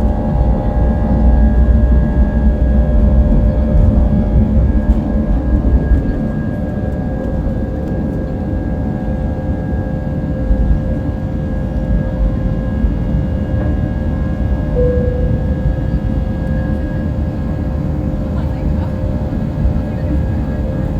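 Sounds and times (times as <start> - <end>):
jet engines at takeoff in cabin: 0.0 - 20.9.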